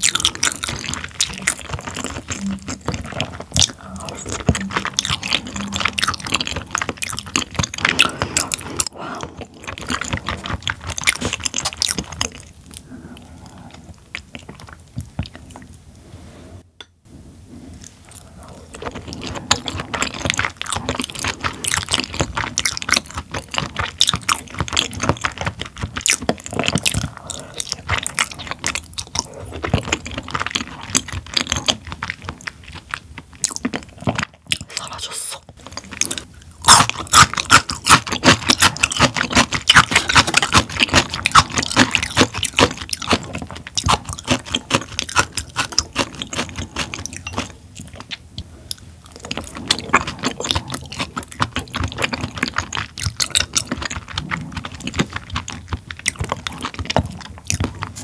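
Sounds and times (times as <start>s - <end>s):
wet chewing mouth clicks: 0.0s - 15.8s, 17.8s - 58.0s.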